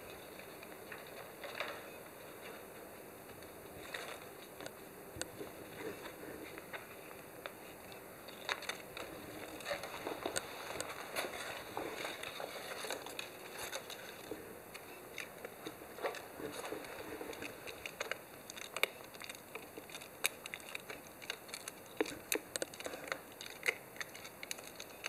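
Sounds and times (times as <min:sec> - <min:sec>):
puppy chewing: 0:03.3 - 0:25.0.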